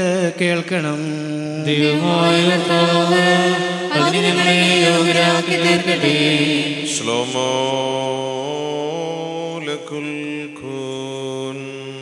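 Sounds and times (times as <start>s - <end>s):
man chanting through microphone: 0.0s - 12.0s.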